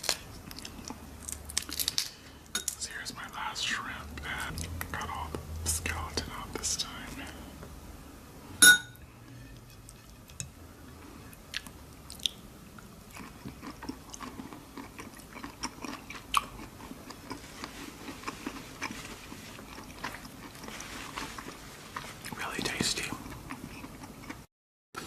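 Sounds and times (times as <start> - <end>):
person chewing food: 0.0 - 2.2, 4.2 - 7.5, 9.2 - 24.5.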